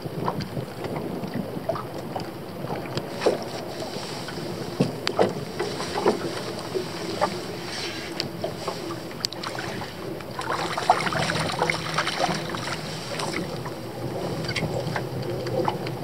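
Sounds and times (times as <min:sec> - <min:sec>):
choppy water against a boat: 0:00.0 - 0:16.0
wind: 0:00.0 - 0:16.0.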